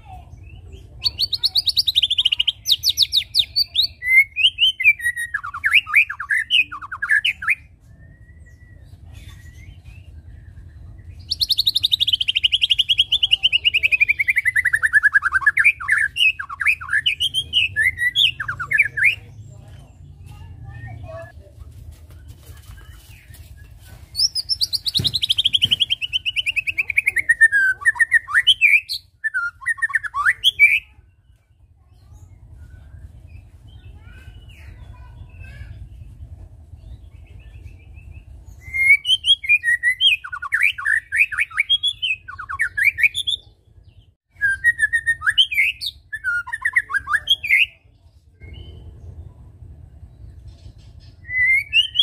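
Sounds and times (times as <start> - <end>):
bird singing trills and whistles: 0.0 - 19.8, 22.7 - 49.3, 50.1 - 52.0.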